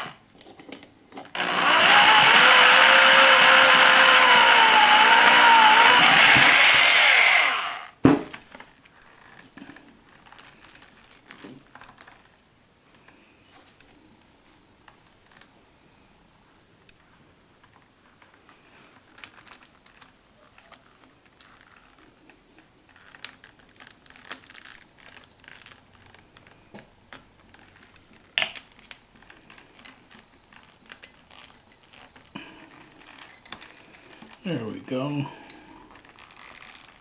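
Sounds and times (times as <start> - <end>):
rustling: 1.3 - 16.1, 17.0 - 37.0.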